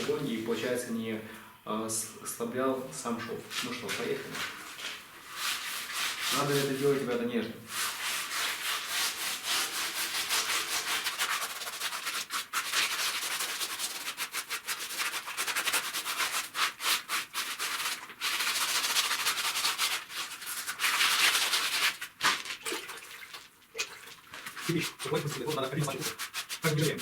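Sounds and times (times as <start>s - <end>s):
wet scrubbing on bricks: 3.6s - 7.1s, 7.7s - 27.0s.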